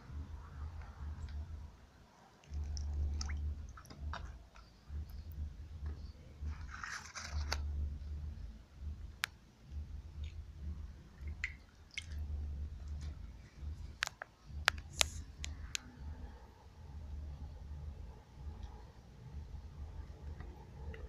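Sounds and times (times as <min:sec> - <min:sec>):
low microphone rumble: 0:00.0 - 0:21.0.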